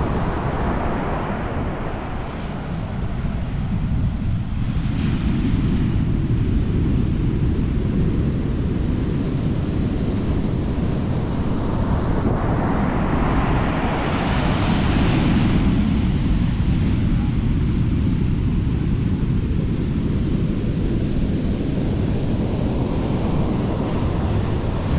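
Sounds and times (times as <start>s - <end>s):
wind rumble on microphone: 0.0s - 24.9s.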